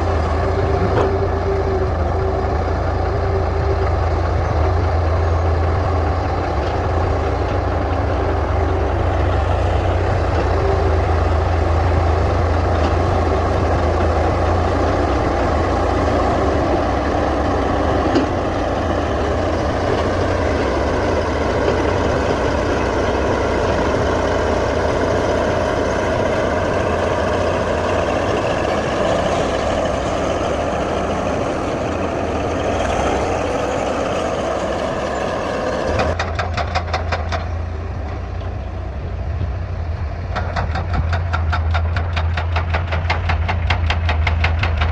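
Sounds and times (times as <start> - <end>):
bulldozer diesel engine droning: 0.0 - 44.9.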